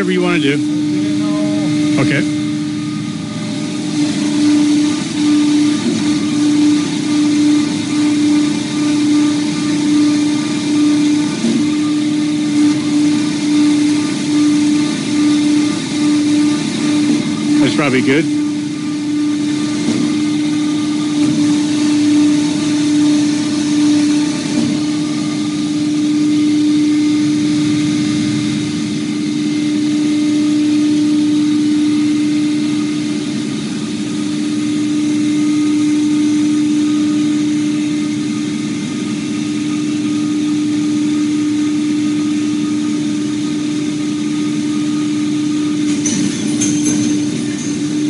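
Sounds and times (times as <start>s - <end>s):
machine hum: 0.0s - 48.0s.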